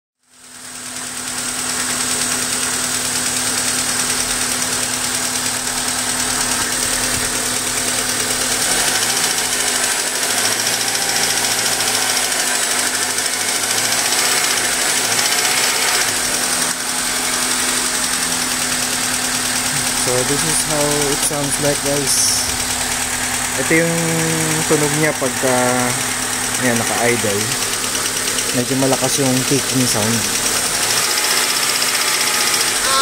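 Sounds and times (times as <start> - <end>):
car engine idling with ticking: 0.2 - 33.0.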